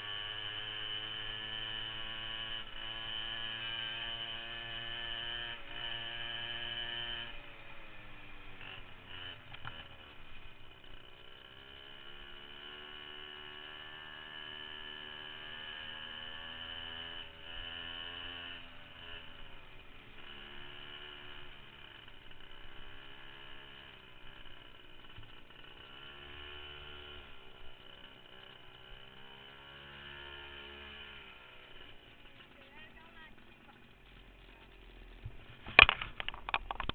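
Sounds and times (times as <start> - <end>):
minibike engine droning: 0.0 - 36.9.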